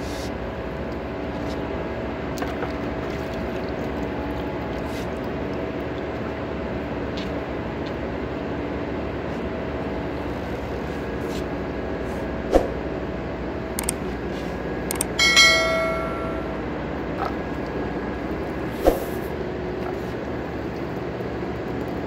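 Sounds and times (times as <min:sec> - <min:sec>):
machinery hum with pitched tone: 0:00.0 - 0:22.0.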